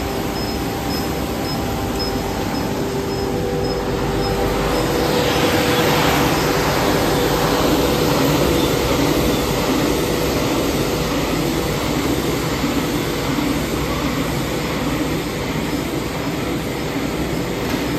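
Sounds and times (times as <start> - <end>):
sanding machine mechanical din: 0.0 - 17.9.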